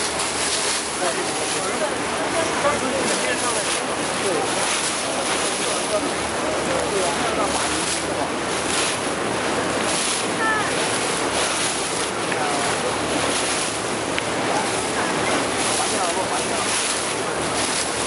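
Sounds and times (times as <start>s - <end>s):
faint voices: 0.0s - 18.0s
water washing past boat: 0.0s - 18.0s.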